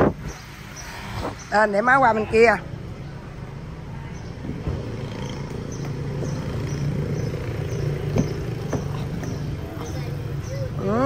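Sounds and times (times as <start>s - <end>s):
car engine idling: 1.8s - 11.0s.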